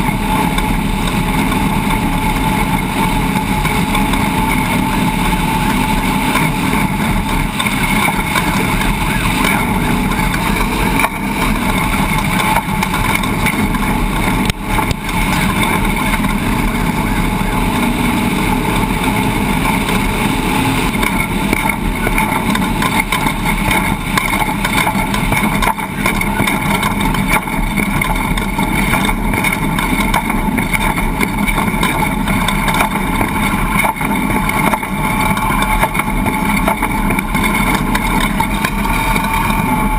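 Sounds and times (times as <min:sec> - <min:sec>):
motor running steadily: 0:00.0 - 0:39.9.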